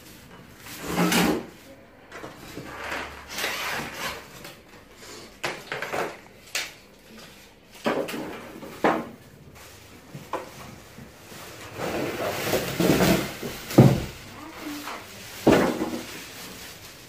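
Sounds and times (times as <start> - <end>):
cardboard and plastic rustling: 0.0 - 17.0.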